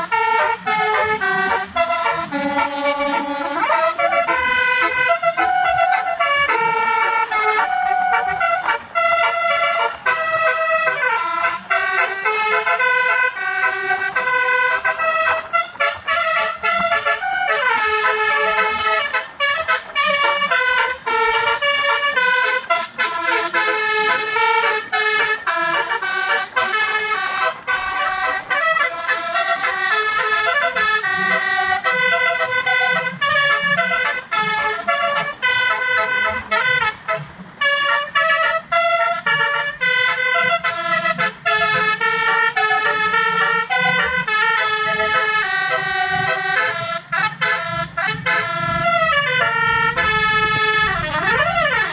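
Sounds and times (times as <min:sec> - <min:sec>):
multi-tone vehicle horn melody: 0:00.0 - 0:51.9.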